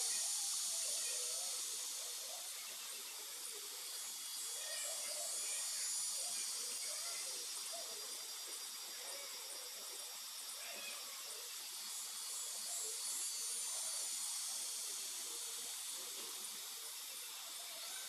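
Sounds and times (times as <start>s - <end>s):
faint indistinct sounds: 0.0s - 18.0s
high-pitched background hiss: 0.0s - 18.0s.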